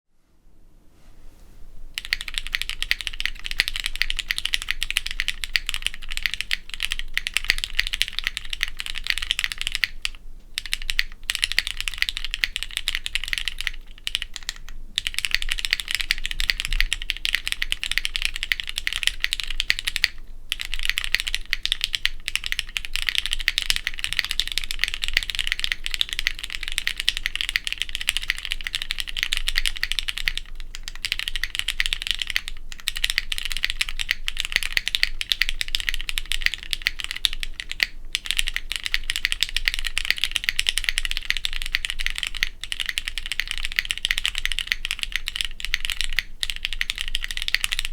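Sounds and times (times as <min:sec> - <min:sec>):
rapid mechanical keyboard typing: 0:02.0 - 0:47.9.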